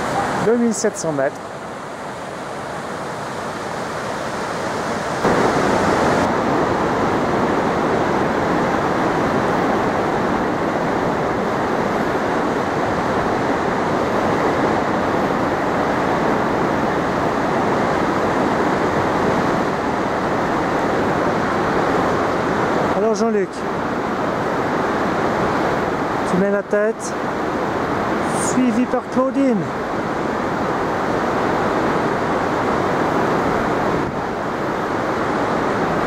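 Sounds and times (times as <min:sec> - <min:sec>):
river rapids rushing: 0:00.0 - 0:36.0.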